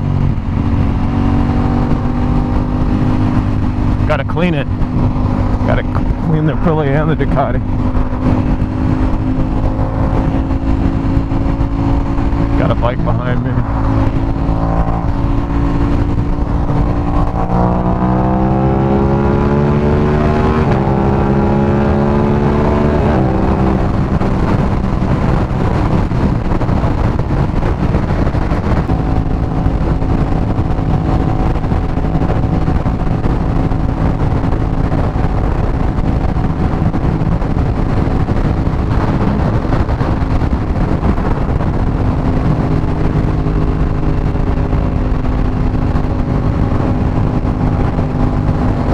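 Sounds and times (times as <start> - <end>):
motorcycle engine accelerating: 0.0 - 48.9
road and wind noise: 0.0 - 48.9.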